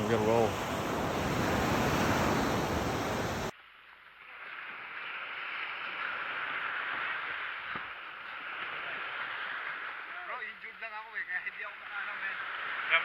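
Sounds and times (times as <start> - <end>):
ocean surf and wind: 0.0 - 3.5, 5.9 - 13.0
rush of water: 0.0 - 13.0.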